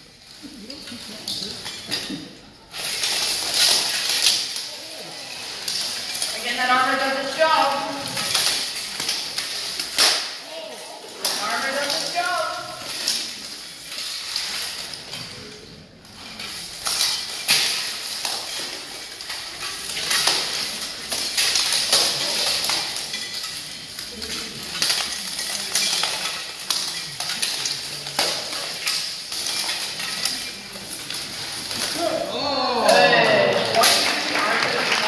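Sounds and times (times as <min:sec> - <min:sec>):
plate armour clattering: 0:01.2 - 0:15.5, 0:16.1 - 0:32.3.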